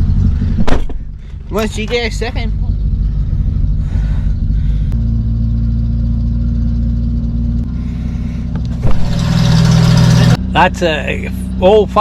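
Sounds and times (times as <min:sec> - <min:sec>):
tractor engine running: 0:00.0 - 0:10.7.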